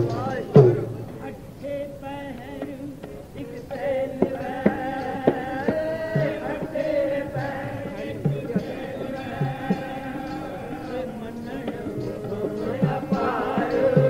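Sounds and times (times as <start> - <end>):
tabla strokes: 0.0 - 1.8, 2.4 - 14.0
harmonium: 0.0 - 14.0
voices singing: 0.0 - 14.0.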